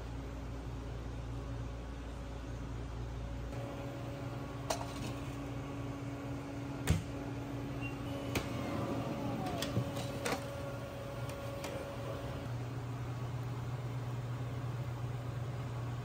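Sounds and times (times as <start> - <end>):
kitchen ovens and fans humming: 0.0 - 16.0.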